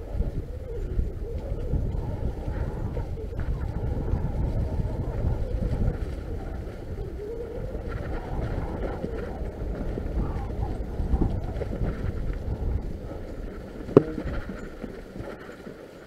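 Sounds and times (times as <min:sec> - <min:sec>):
wind rumble on microphone: 0:00.0 - 0:16.0
bike tyres rolling through leaves: 0:01.2 - 0:16.0.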